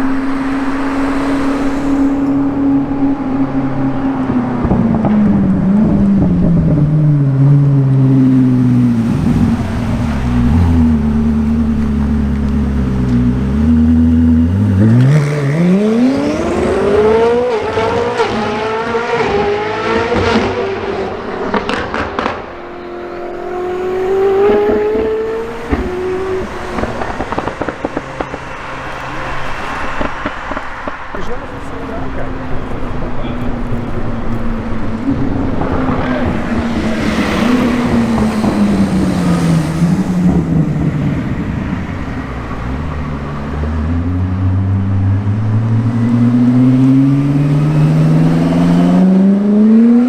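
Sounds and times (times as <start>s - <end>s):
exhaust crackles: 0.0s - 50.0s
sports car engine accelerating: 0.0s - 50.0s.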